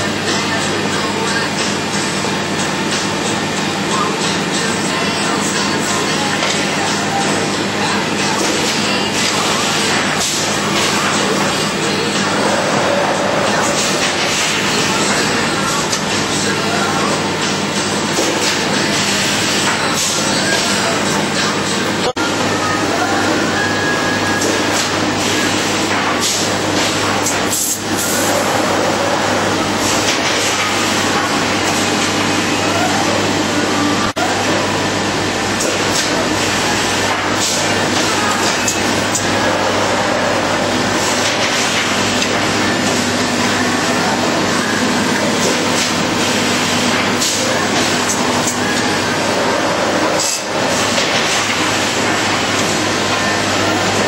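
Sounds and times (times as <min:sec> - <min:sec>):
cutting machine running: 0:00.0 - 0:54.0.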